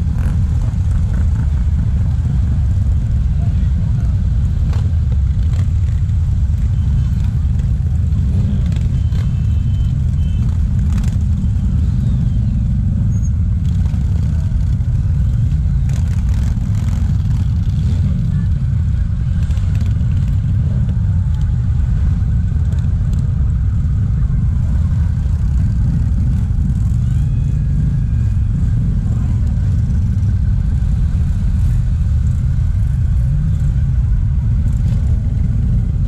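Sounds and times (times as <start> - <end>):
motorcycle engines rumbling: 0.0 - 36.0.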